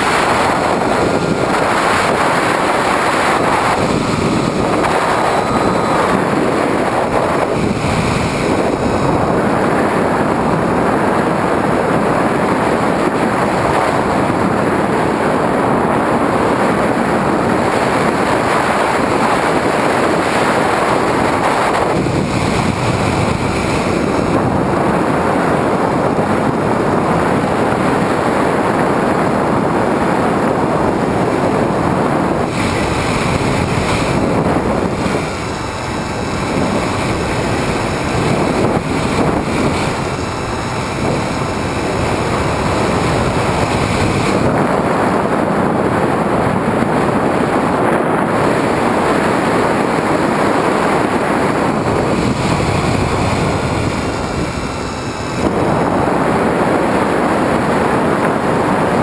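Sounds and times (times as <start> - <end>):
airflow rushing over camera: 0.0 - 59.0
electric motor and propeller whine: 0.0 - 59.0.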